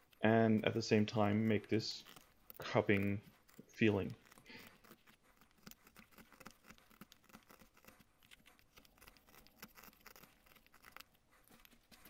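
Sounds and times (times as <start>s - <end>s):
knife carving wood shavings: 0.0s - 12.0s.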